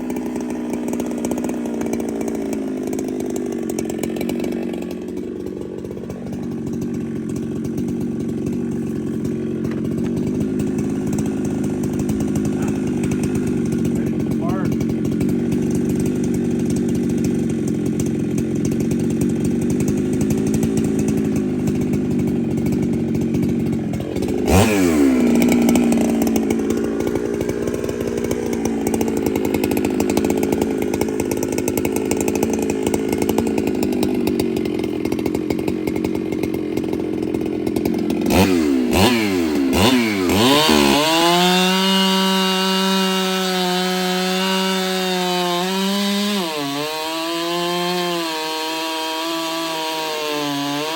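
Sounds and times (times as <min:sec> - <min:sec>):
chainsaw cutting at full throttle: 0:00.0 - 0:50.9.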